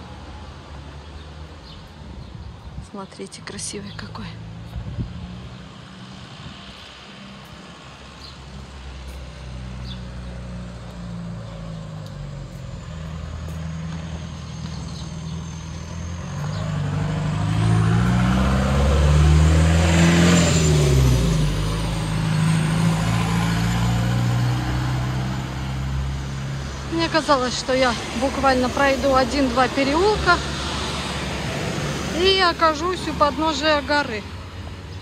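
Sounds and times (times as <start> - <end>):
road traffic engine noise: 0.0 - 35.0
motor vehicle passing close: 3.8 - 35.0.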